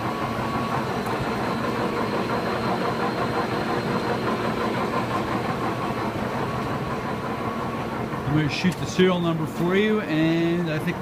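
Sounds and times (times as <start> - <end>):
faint constant whine: 0.0 - 11.0
machinery humming: 0.0 - 11.0.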